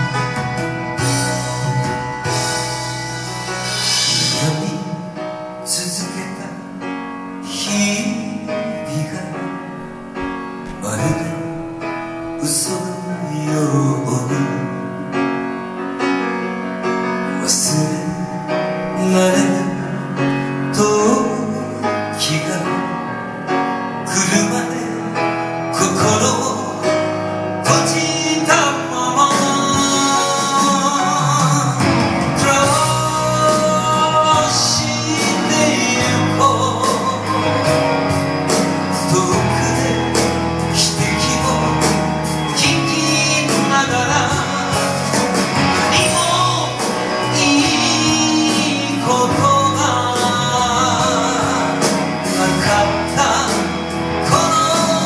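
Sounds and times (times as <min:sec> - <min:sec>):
ballad singing with accompaniment: 0:00.0 - 0:55.0.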